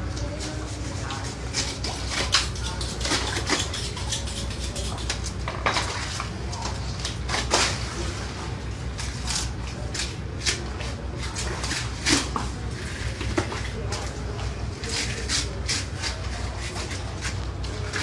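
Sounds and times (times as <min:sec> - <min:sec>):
steady low hum: 0:00.0 - 0:18.0
knife scraping fish: 0:00.1 - 0:06.1, 0:09.0 - 0:18.0.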